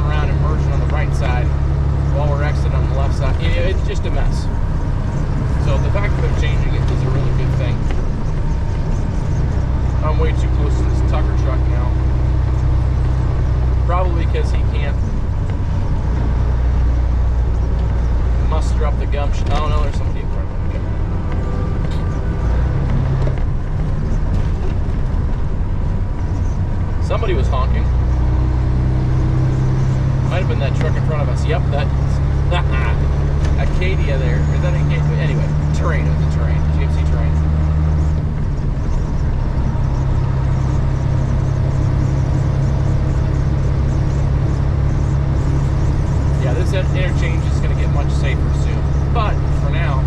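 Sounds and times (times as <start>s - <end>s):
truck engine and road drone: 0.0s - 50.0s.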